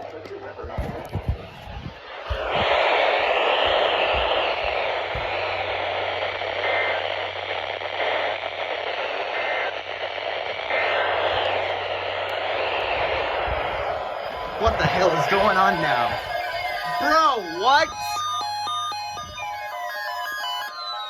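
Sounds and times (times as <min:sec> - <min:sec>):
radio static hiss: 0:00.0 - 0:21.0
steady low hum: 0:00.0 - 0:21.0.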